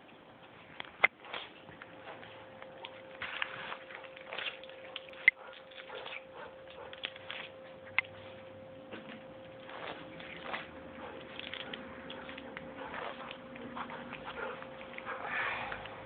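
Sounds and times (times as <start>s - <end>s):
cat crunching dry kibble: 1.1s - 16.0s.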